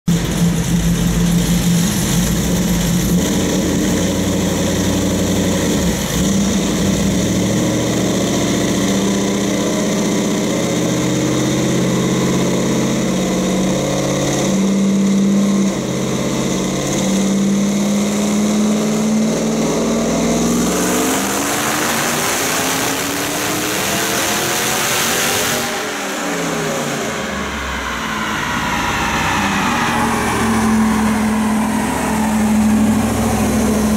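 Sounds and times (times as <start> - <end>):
engine revving under load: 0.2 - 33.9.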